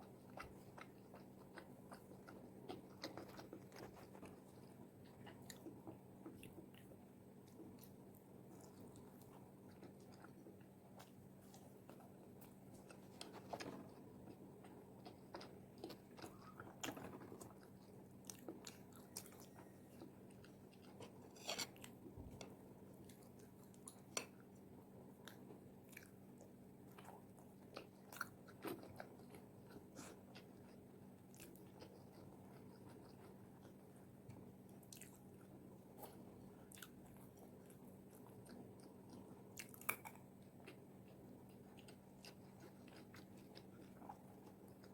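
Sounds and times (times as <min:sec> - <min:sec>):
chewing crispy fried chicken: 0:00.0 - 0:44.9
faint steady hum: 0:00.0 - 0:44.9.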